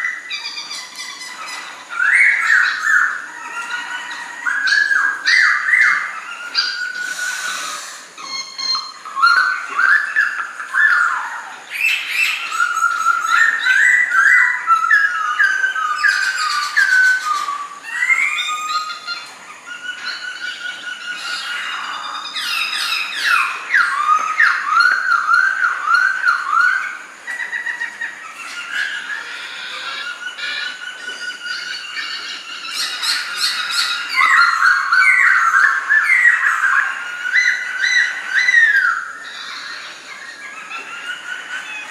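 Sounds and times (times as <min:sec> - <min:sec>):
bird singing whistled song: 0:00.0 - 0:41.9.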